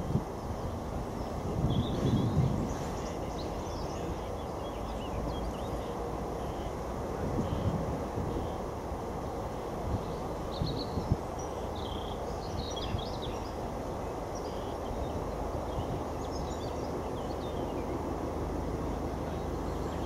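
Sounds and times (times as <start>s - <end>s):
distant diesel locomotive rumble: 0.0s - 20.0s
small birds chirping: 0.0s - 20.0s.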